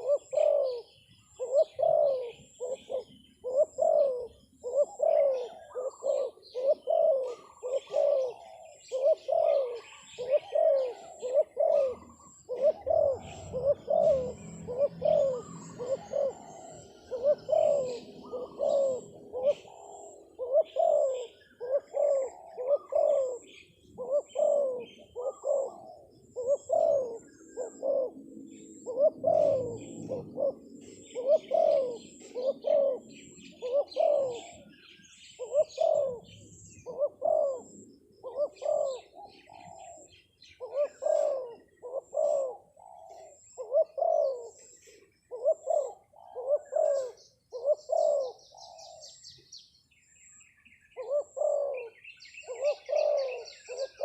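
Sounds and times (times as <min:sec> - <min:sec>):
dove cooing: 0:00.0 - 0:54.0
small birds chirping faintly: 0:00.0 - 0:54.0.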